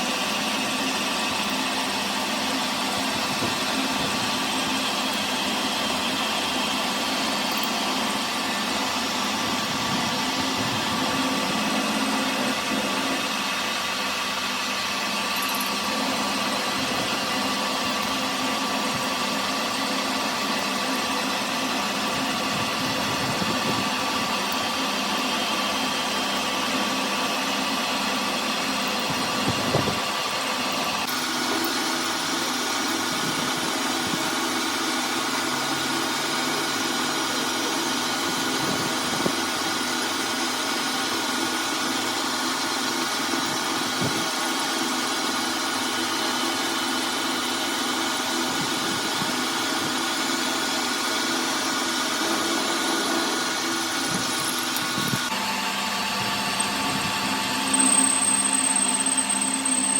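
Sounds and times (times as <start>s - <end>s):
workshop machine humming: 0.0s - 59.9s.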